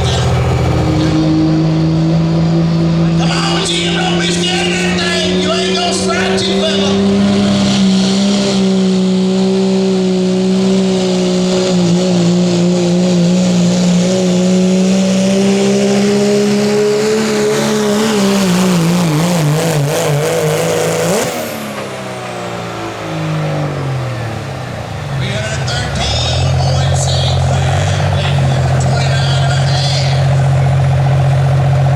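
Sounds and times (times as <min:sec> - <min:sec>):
diesel truck engine at full throttle: 0:00.0 - 0:31.9.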